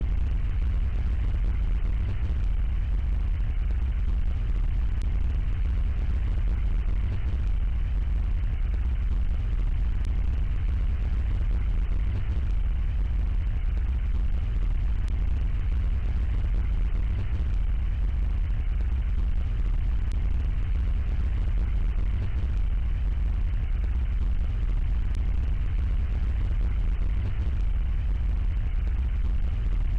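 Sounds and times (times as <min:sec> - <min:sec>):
deep rumbling drone: 0:00.0 - 0:29.9.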